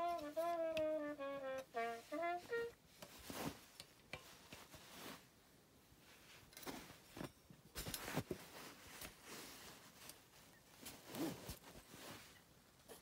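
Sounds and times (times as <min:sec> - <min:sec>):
soft rustling on cloth: 0:01.7 - 0:13.0.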